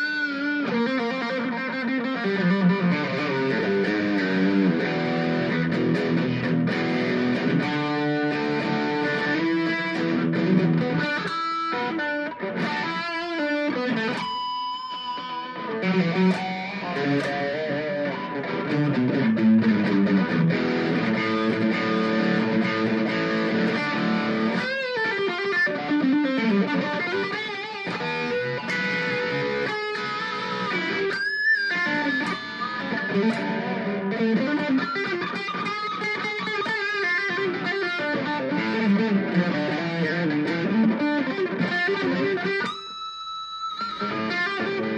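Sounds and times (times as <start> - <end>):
distorted electric guitar: 0.0 - 44.9.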